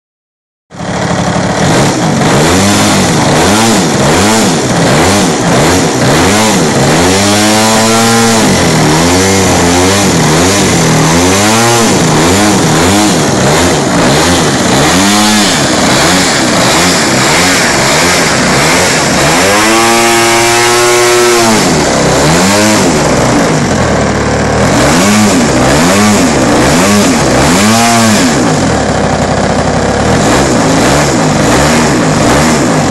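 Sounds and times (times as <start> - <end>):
model plane engine revving: 0.8 - 32.9.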